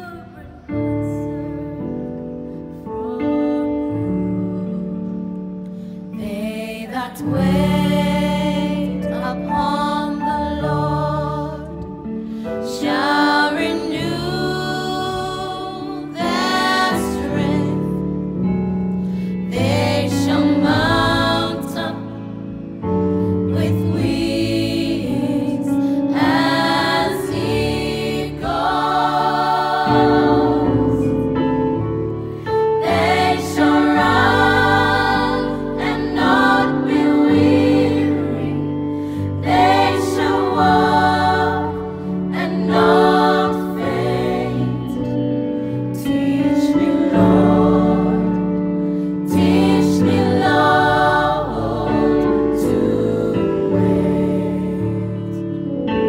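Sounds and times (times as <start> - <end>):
electric keyboard chords: 0.0 - 56.0
women singing a hymn in harmony: 0.0 - 56.0.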